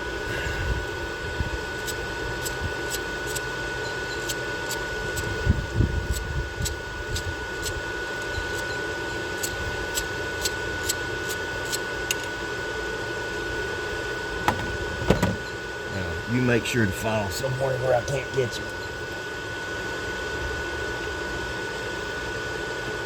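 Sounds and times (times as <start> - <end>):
thin whine: 0.0 - 21.4
steady hum: 0.0 - 22.3.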